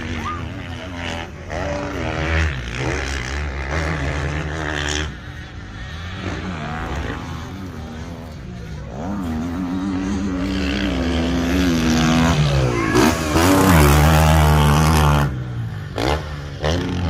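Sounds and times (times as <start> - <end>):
motocross bike revving: 0.0 - 17.0.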